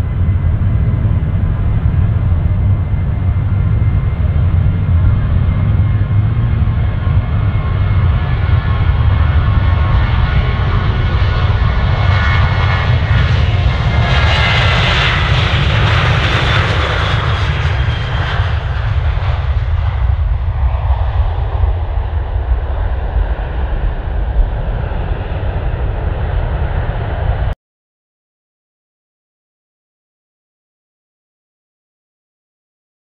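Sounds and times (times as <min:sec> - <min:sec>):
jet engine whine: 0:00.0 - 0:27.6
jet engines roaring: 0:00.0 - 0:27.6.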